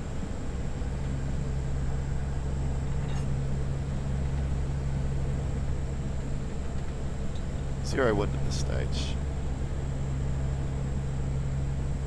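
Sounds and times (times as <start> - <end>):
propeller engines humming: 0.0 - 12.0.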